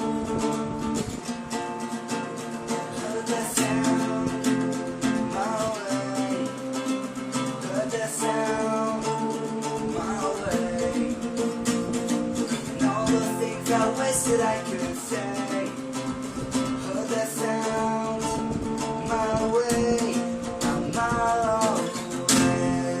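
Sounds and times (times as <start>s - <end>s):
punk rock guitar strumming: 0.0s - 23.0s.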